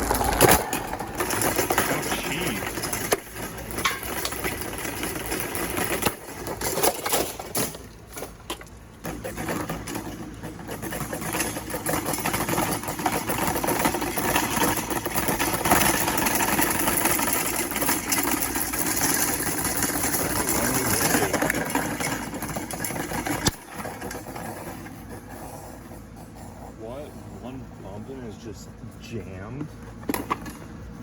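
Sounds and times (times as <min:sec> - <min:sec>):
electric fan motor rattling: 0:00.0 - 0:31.0.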